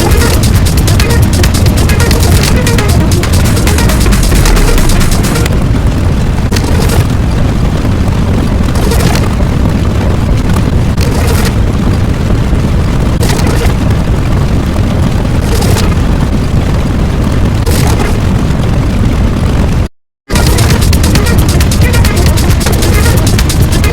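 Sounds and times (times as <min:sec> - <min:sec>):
deep rumble: 0:00.0 - 0:23.9
hissing crackle: 0:00.0 - 0:23.9.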